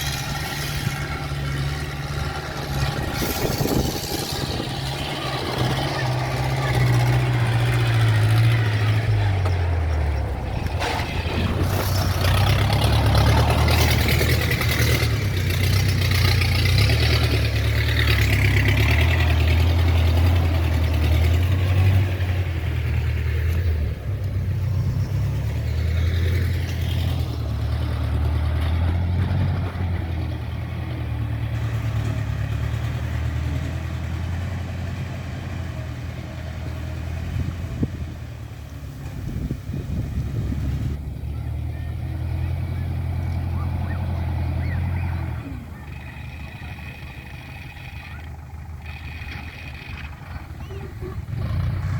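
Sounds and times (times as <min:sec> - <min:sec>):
road or wind noise: 0:00.0 - 0:51.9
vehicle engine humming: 0:00.0 - 0:51.9.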